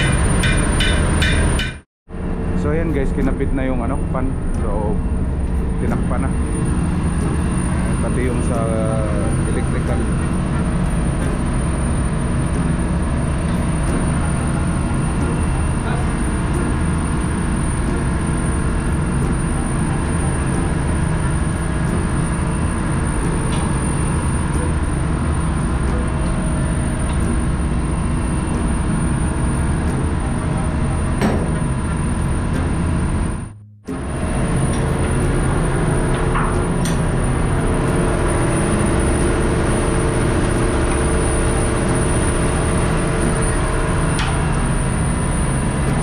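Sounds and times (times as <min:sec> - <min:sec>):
machinery drone: 0:00.0 - 0:46.0.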